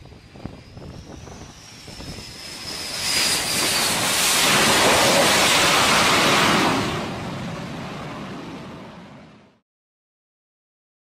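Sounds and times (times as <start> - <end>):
loud rush of jet noise: 0.0 - 9.5
high turbine whine: 0.0 - 9.6.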